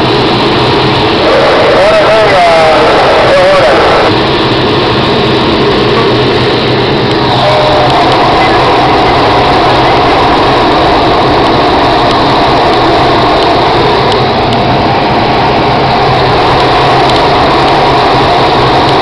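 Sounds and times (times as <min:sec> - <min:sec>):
air rushing around canopy: 0:00.0 - 0:19.0
plane engine drone: 0:00.0 - 0:19.0.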